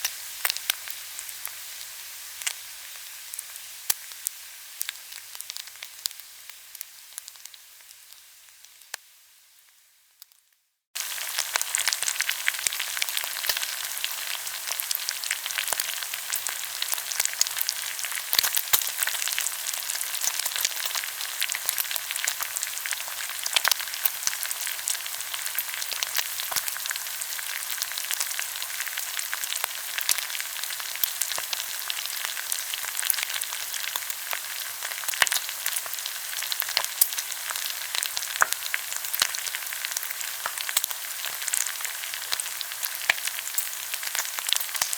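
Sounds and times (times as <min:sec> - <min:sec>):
pork sizzling on a grill: 0:00.0 - 0:44.9.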